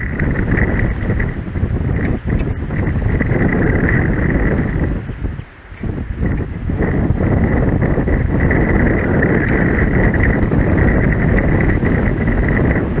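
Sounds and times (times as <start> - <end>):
steady high-pitched whine: 0.0 - 13.0
wind buffeting microphone: 0.0 - 13.0.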